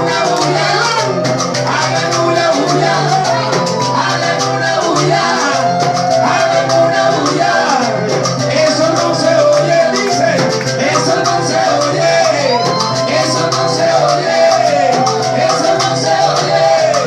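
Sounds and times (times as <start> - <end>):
maracas shaking: 0.0 - 17.0
salsa music with bass and melody: 0.0 - 17.0.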